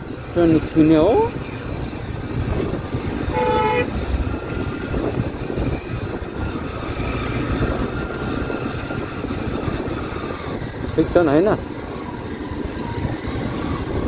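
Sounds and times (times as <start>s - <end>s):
scooter engine running: 0.0s - 14.0s
wind and road noise: 0.0s - 14.0s.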